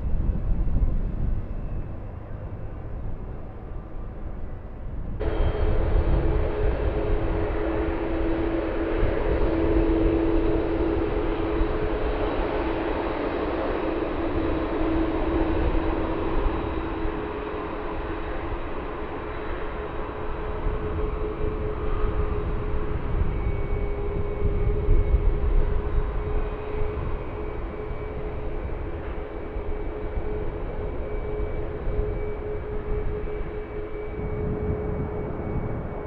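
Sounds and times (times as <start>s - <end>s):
jet engines droning: 0.0s - 36.0s
wind on microphone: 0.0s - 36.0s.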